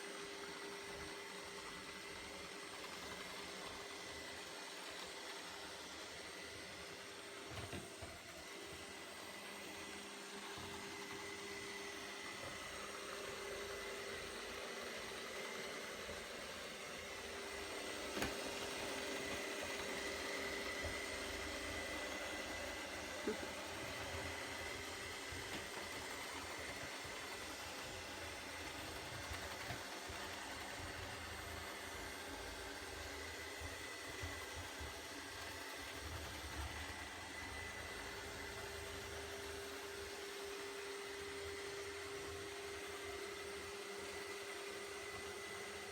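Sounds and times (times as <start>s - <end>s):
robot vacuum motor whirring: 0.4s - 45.9s.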